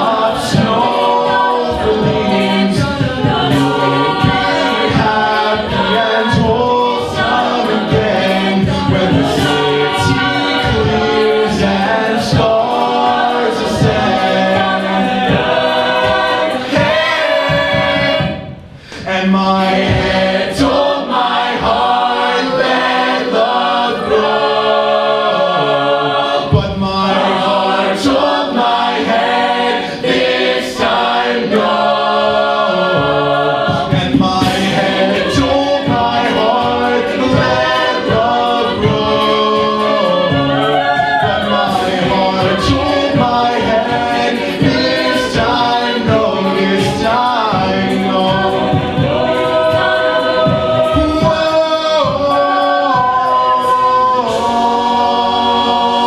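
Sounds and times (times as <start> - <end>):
a cappella group singing: 0.0 - 56.0
vocal percussion hits: 0.0 - 56.0.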